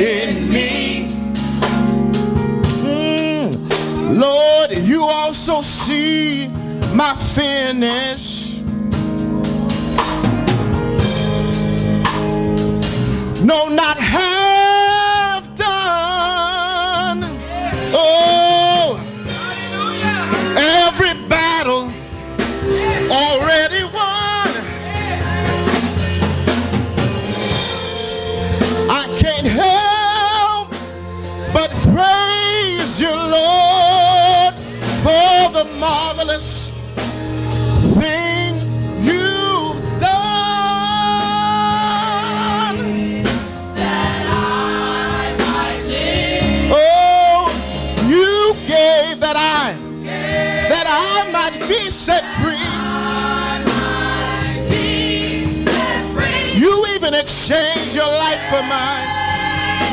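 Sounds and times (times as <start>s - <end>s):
person singing gospel: 0.0s - 12.2s, 12.8s - 59.9s
bass: 0.0s - 59.9s
keyboard chords: 0.0s - 59.9s.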